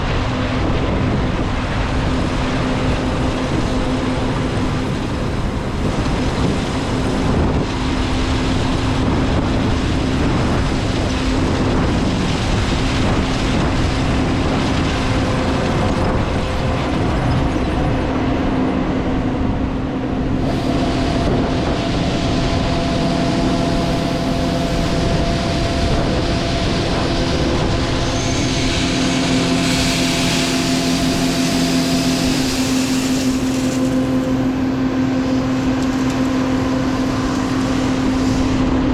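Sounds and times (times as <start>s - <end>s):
combine harvester drone: 0.0s - 38.9s
higher machine whine: 0.0s - 38.9s.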